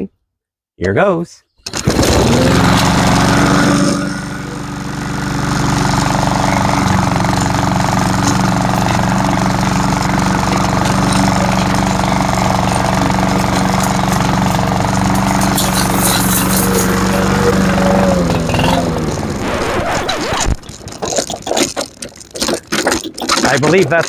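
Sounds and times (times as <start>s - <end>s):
lawn mower engine running: 1.7s - 24.0s.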